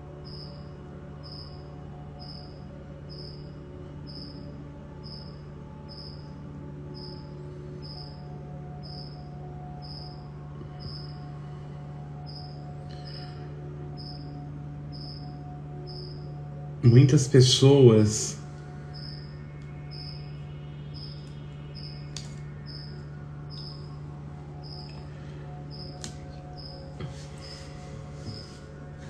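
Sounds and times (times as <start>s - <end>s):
cricket chirping: 0.0s - 16.7s, 18.6s - 28.8s
low hum: 0.0s - 29.0s.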